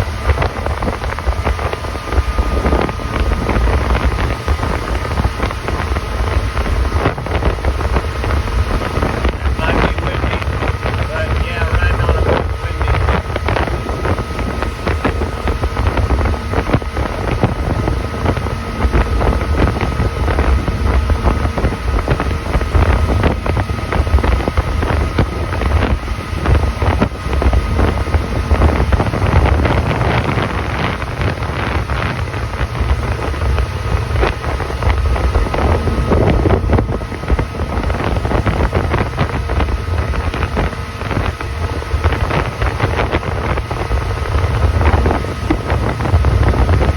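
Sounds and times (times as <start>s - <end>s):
faint steady whine: 0.0s - 46.9s
motorboat engine rumble: 0.0s - 46.9s
wind buffeting microphone: 0.0s - 46.9s.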